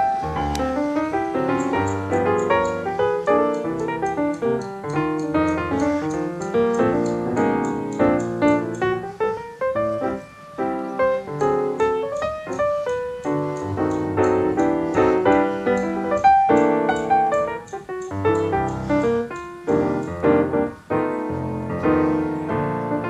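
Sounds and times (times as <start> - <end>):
piano tune with quick notes: 0.0 - 23.0.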